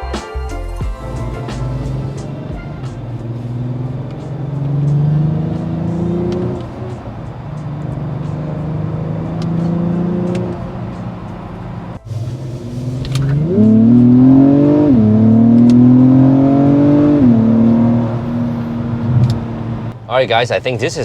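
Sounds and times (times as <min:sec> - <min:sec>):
car engine accelerating hard: 0:01.1 - 0:21.0.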